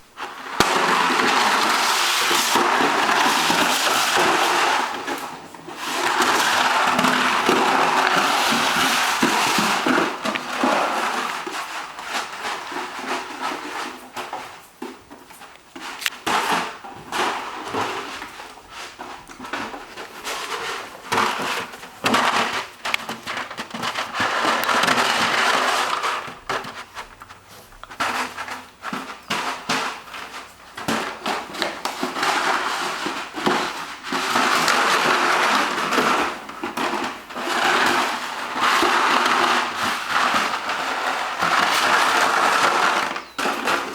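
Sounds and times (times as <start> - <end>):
puppy chewing carton crackling: 0.0 - 43.9.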